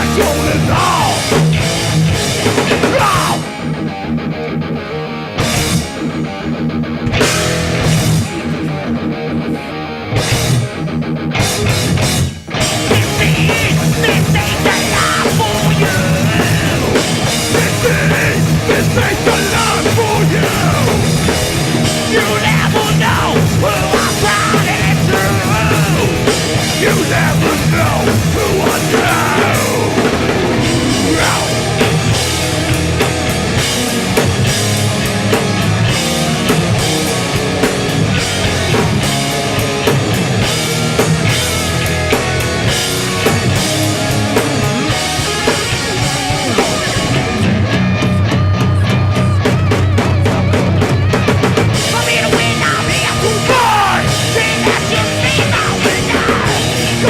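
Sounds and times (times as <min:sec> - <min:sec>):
punk band playing live: 0:00.0 - 0:57.0.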